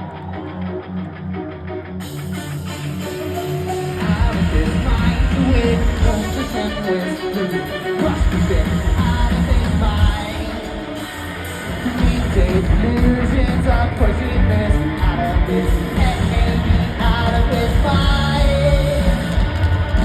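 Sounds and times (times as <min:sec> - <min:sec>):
bass guitar: 0:00.0 - 0:20.0
drums: 0:00.0 - 0:20.0
electric guitars: 0:00.0 - 0:20.0
person singing lead vocal: 0:02.3 - 0:20.0.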